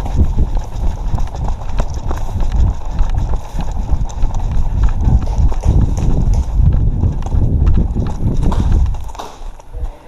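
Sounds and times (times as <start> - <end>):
gear jostling against microphone: 0.0 - 9.7
running footsteps thumping: 0.0 - 10.0.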